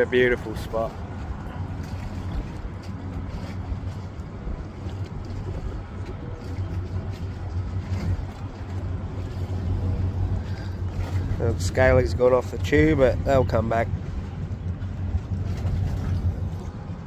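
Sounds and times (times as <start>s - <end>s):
low rumble with deep hum: 0.0s - 17.0s.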